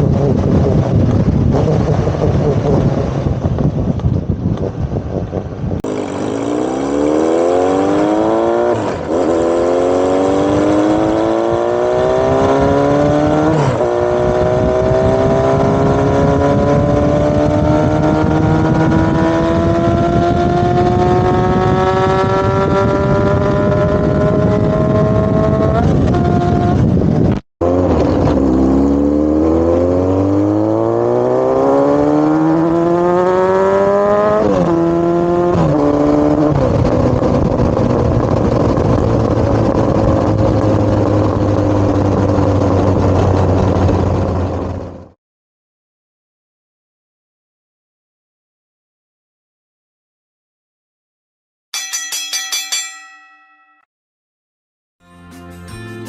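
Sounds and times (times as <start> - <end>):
engine exhaust accelerating: 0.0 - 45.1.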